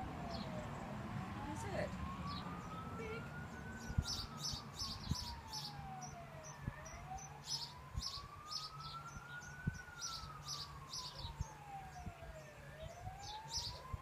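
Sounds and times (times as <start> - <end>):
fire truck siren wailing: 0.0 - 14.0.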